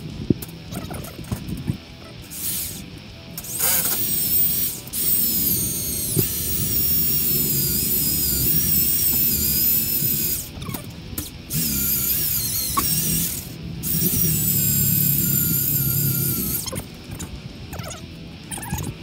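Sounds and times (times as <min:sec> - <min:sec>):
electric drill motor whine: 0:01.9 - 0:17.3.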